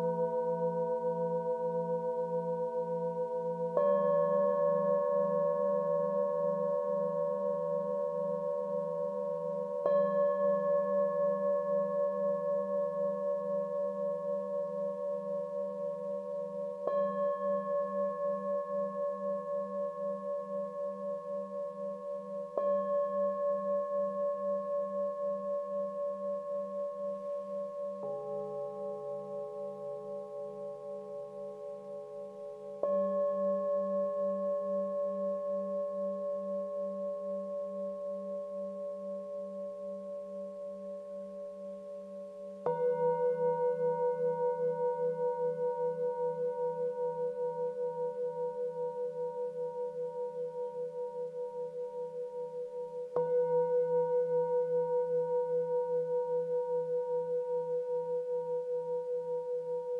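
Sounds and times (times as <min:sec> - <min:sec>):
singing bowls ringing: 0:00.0 - 0:59.9.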